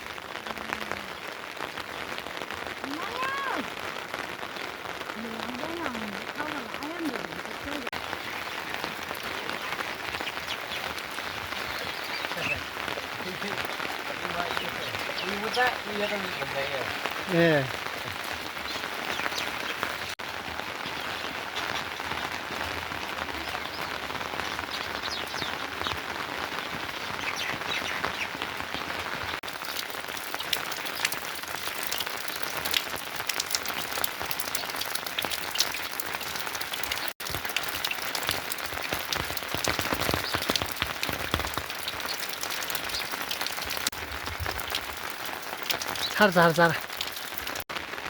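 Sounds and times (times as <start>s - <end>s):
steady rain with drop hits: 0.0s - 48.0s.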